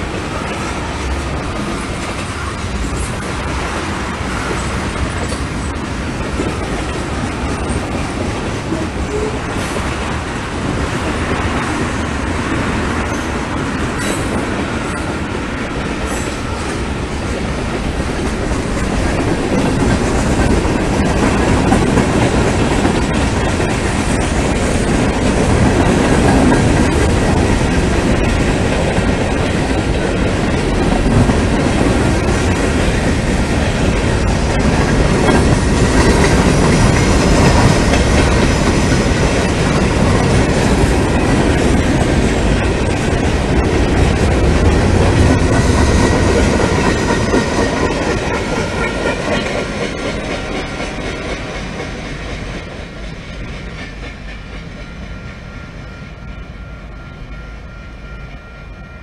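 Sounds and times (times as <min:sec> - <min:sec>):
train wheels clattering on rails: 0:00.0 - 0:58.5.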